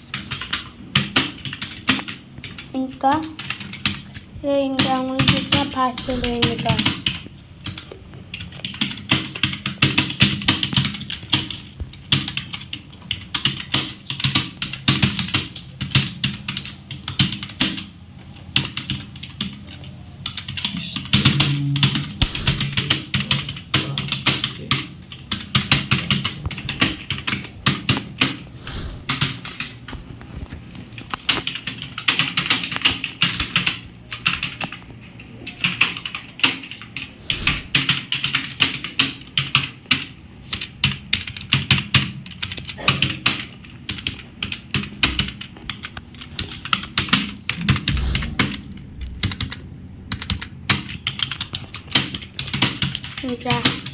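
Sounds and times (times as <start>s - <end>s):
computer keyboard typing: 0.0s - 29.9s, 31.0s - 53.9s.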